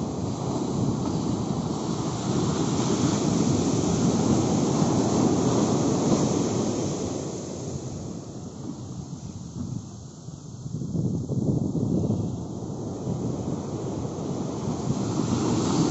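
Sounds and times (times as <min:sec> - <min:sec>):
wave breaking on shore: 0:00.0 - 0:09.9, 0:12.6 - 0:15.9.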